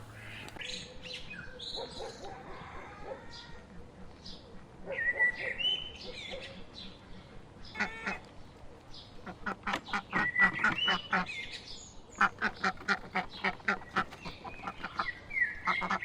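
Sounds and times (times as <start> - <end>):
ducks quacking: 0.0 - 0.6, 1.8 - 16.0.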